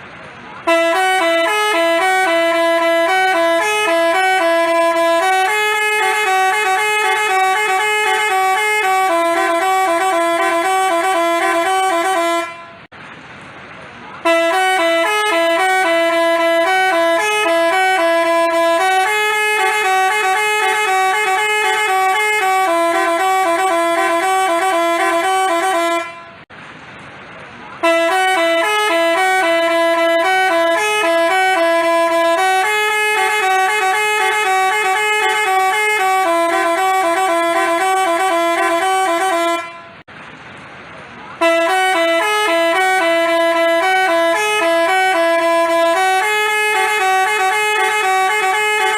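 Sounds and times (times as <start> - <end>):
multi-tone bus horn playing tune: 0.4 - 12.9, 14.2 - 26.5, 27.8 - 40.1, 41.4 - 48.9.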